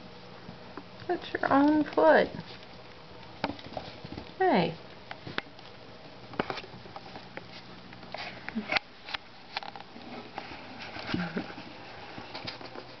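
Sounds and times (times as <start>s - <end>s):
paws clicking and pattering: 0.8s - 13.0s.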